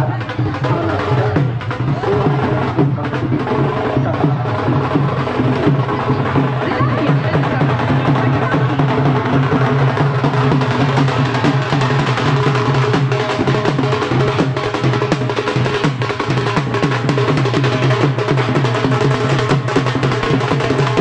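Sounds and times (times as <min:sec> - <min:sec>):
barrel drums beaten with sticks: 0:00.0 - 0:21.0.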